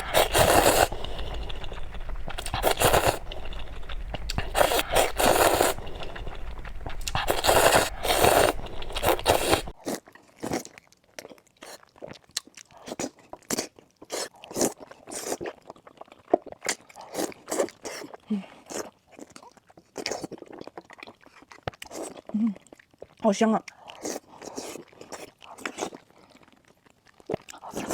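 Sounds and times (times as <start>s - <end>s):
crunchy food being chewed: 0.0s - 27.9s.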